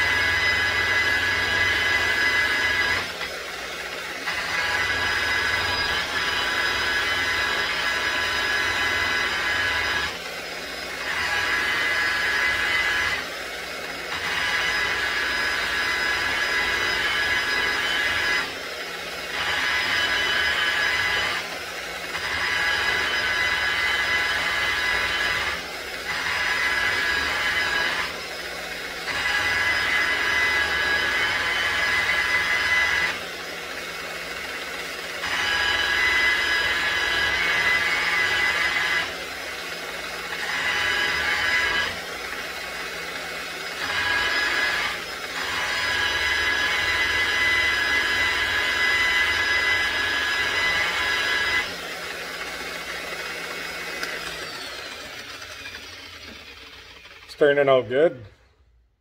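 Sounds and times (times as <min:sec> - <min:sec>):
buffing wheel grinding on metal: 0:00.0 - 0:33.2, 0:39.9 - 0:58.1.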